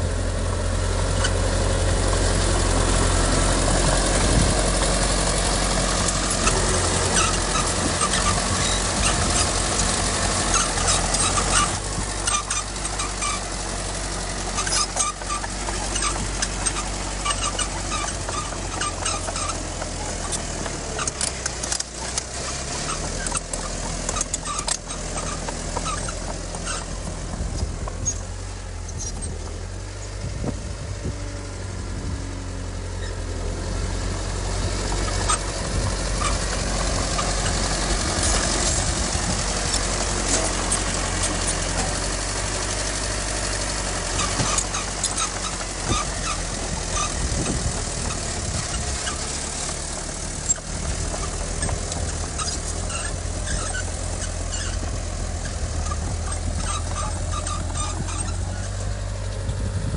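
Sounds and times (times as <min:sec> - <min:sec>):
diesel machinery engine: 0:00.0 - 0:59.9
clanks and rattles: 0:01.1 - 0:31.6, 0:32.8 - 0:59.9.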